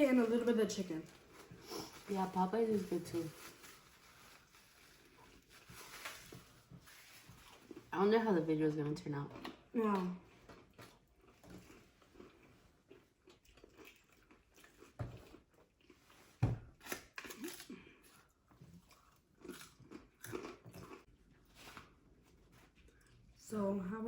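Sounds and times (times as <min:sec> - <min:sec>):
chewing and crunching fried food: 0:00.1 - 0:08.2, 0:09.1 - 0:23.5.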